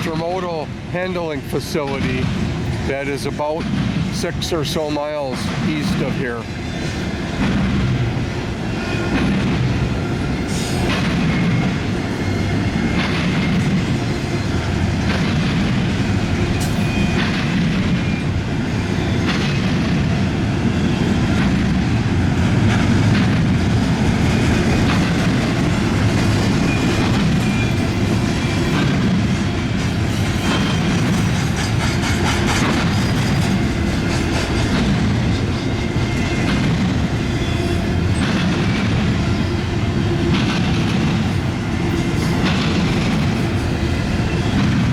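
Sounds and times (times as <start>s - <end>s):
freight train cars rolling: 0.0s - 44.9s
wheels clacking: 7.0s - 44.9s.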